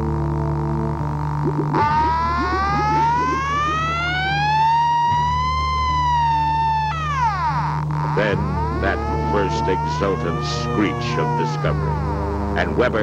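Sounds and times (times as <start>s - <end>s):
low electronic drone: 0.0s - 13.0s
high electronic screech: 1.2s - 13.0s.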